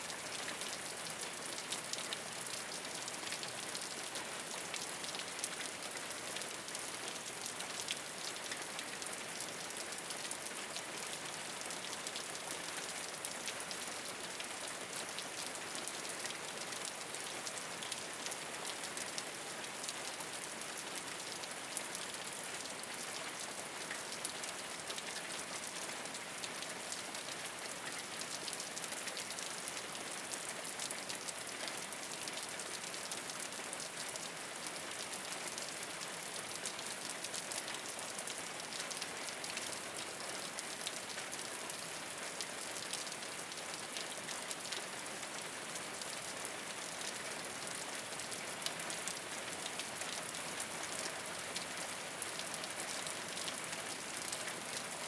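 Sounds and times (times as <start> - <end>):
rain falling on a rooftop: 0.0 - 55.0.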